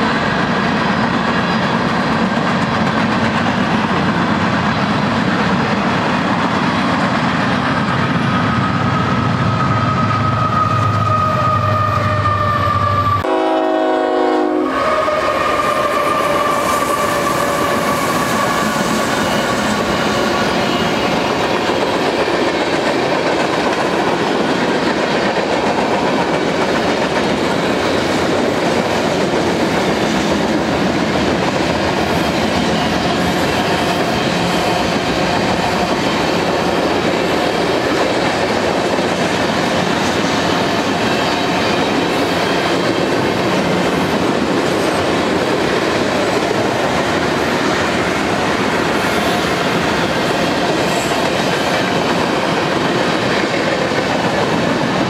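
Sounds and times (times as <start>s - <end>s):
freight train wheels rolling on rail: 0.0s - 55.0s.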